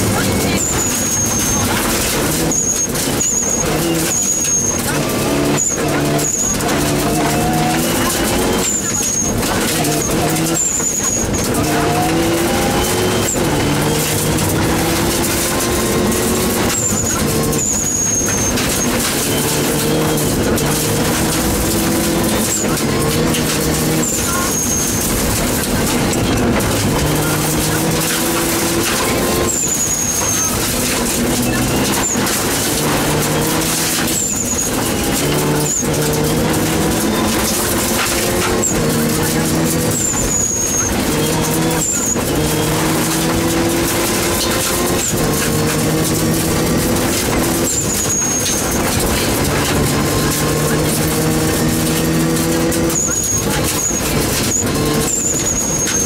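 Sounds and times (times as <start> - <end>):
turbo whistle: 0.0 - 25.2, 26.2 - 56.0
car engine revving hard: 0.0 - 56.0
tyres on gravel: 0.0 - 56.0.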